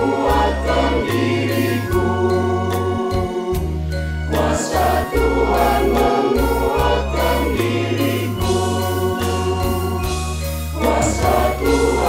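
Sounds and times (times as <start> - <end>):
choir singing a hymn: 0.0 - 12.0
instrumental accompaniment: 0.0 - 12.0
low bass notes: 0.0 - 12.0.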